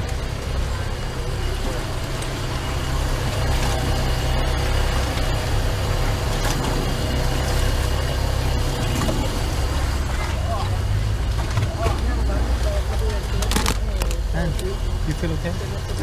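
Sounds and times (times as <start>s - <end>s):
speedboat engine running: 0.0s - 16.0s.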